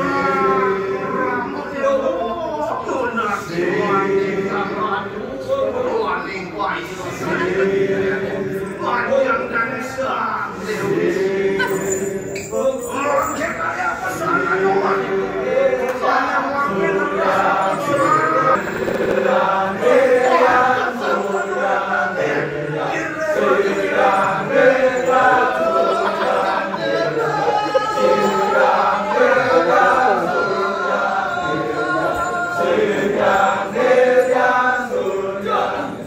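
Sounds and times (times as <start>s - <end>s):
men chanting together: 0.0s - 1.8s, 3.0s - 5.2s, 6.9s - 8.6s, 9.3s - 12.4s, 14.0s - 36.0s.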